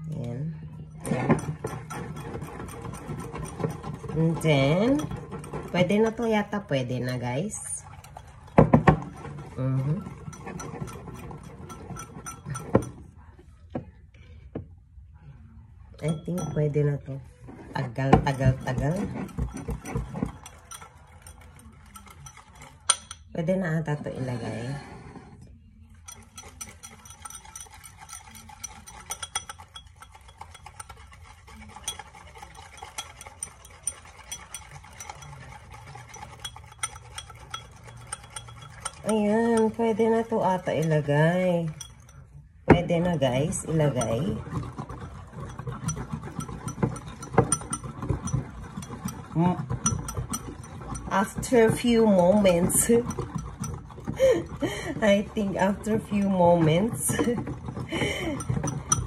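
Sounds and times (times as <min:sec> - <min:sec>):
whisk knocking on glass mug: 0:01.0 - 0:13.0, 0:16.0 - 0:16.8, 0:17.6 - 0:23.3, 0:26.0 - 0:59.0
whisk clinking against glass: 0:01.0 - 0:13.3, 0:16.0 - 0:23.4, 0:25.8 - 0:59.0.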